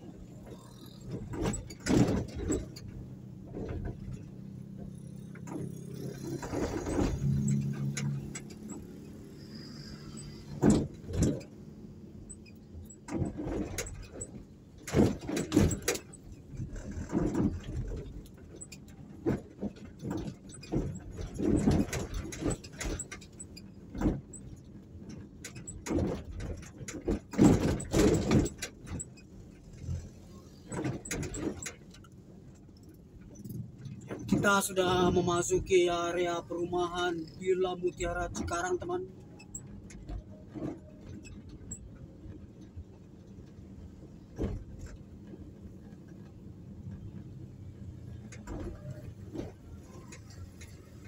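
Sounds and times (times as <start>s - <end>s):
vehicle driving on rough road: 0.0s - 51.0s.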